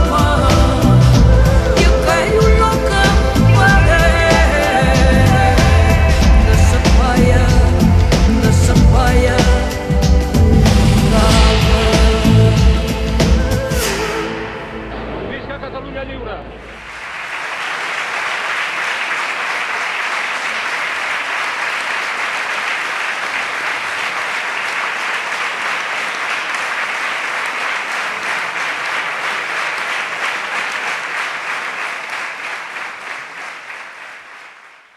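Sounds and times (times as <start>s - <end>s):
large crowd clapping: 0.0s - 13.9s, 16.7s - 34.9s.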